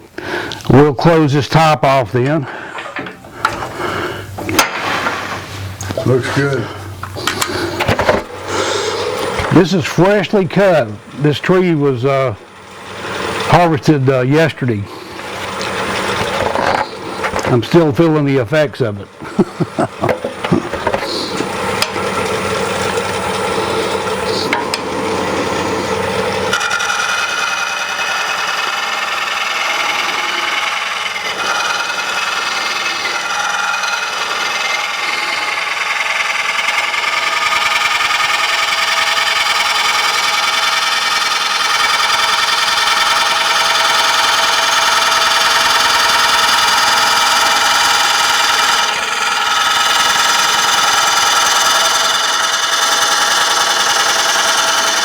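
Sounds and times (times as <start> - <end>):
wood lathe gouge cutting: 0.0 - 55.0.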